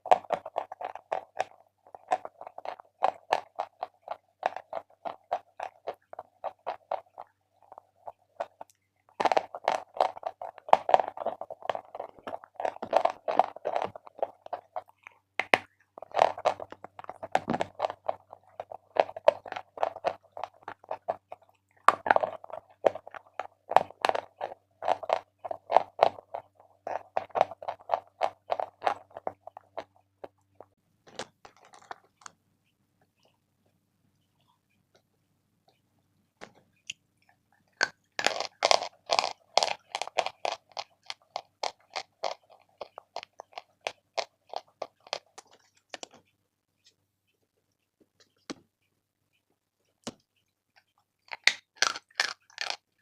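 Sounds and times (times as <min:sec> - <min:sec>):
crunching and chewing chalk: 0:00.0 - 0:32.4, 0:36.4 - 0:48.6, 0:49.5 - 0:53.0.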